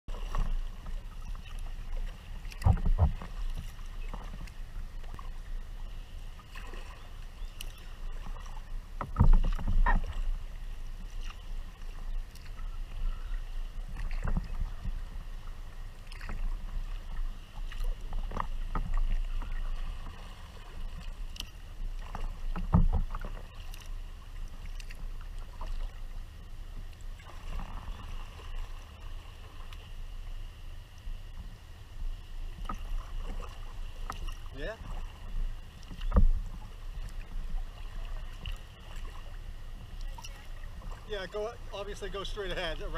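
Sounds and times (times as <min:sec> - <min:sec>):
low steady rumble: 0:00.1 - 0:42.9
water lapping against kayak hull: 0:00.1 - 0:42.9.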